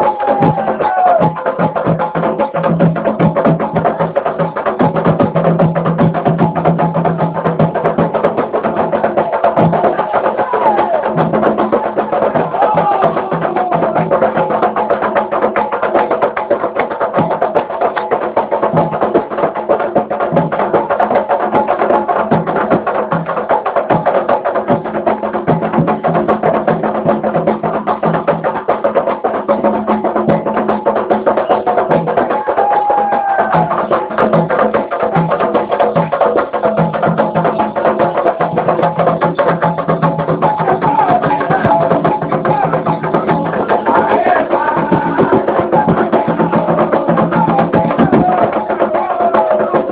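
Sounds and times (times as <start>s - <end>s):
fast dense drumming: 0.0s - 49.9s.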